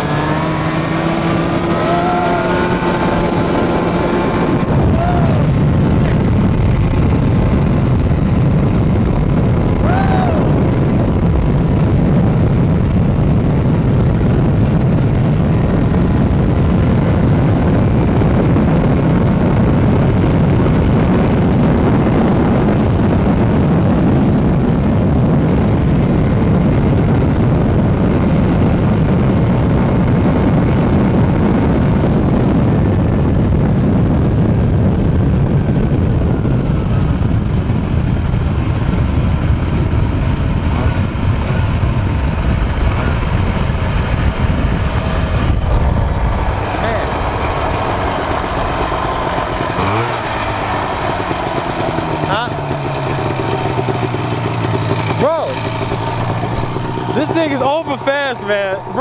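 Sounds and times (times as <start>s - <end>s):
go-kart engine buzzing: 0.0s - 59.0s.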